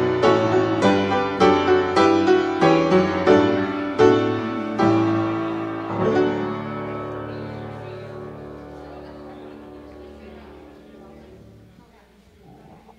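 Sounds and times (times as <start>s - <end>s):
piano chords ringing: 0.0s - 11.7s.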